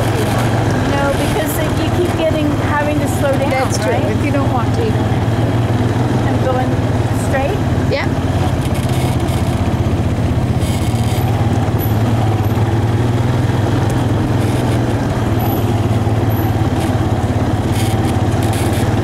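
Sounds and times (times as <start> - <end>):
atv engine droning: 0.0 - 19.0.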